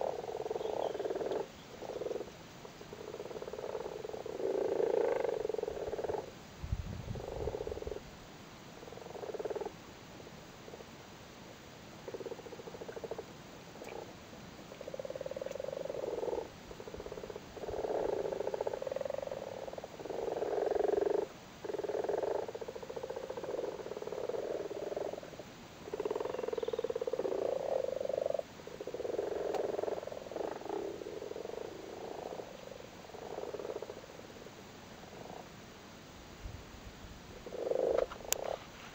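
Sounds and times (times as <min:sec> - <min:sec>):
frogs croaking in chorus: 0:00.0 - 0:06.4, 0:07.1 - 0:08.1, 0:08.8 - 0:09.9, 0:12.0 - 0:35.6, 0:37.3 - 0:38.6.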